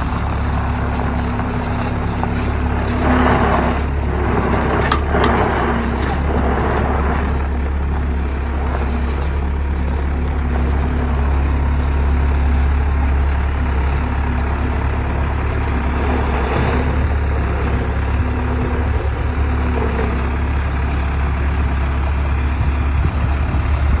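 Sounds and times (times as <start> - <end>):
loader engine droning: 0.0 - 24.0.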